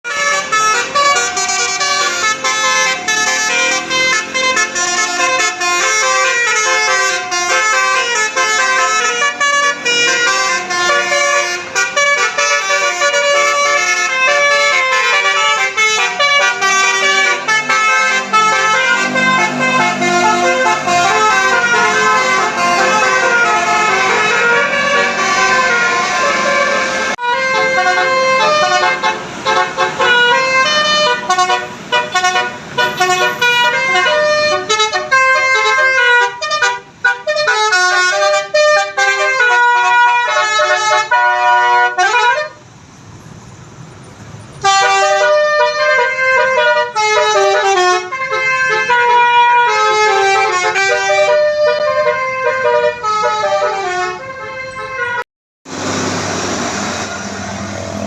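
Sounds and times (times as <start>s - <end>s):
musical air horns playing tunes: 0.0s - 42.6s, 44.6s - 55.2s
engine and traffic noise: 0.0s - 58.0s.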